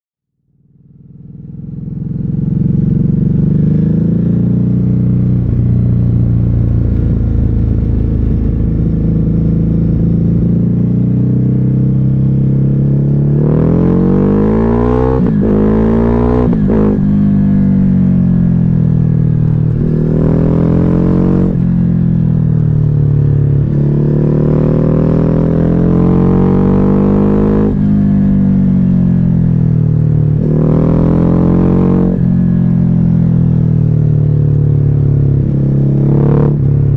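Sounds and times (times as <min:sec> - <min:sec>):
motorcycle engine revving: 0:00.8 - 0:36.9.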